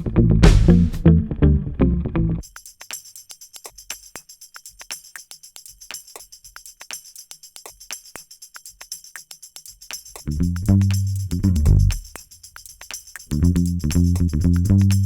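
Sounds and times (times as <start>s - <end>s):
light high percussion music: 0.0s - 1.2s, 2.4s - 15.0s.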